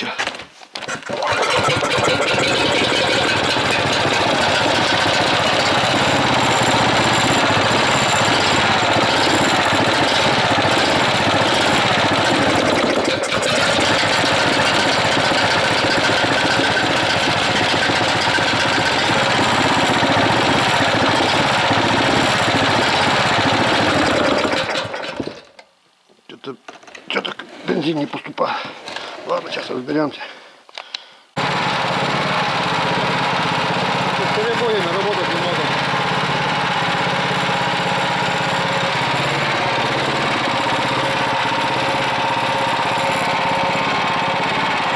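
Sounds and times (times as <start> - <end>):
engine running loudly: 1.1 - 25.3, 31.4 - 44.9.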